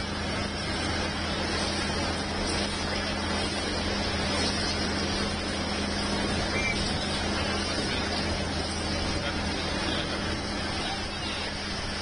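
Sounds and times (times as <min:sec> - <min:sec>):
steady engine hum: 0:00.0 - 0:12.0.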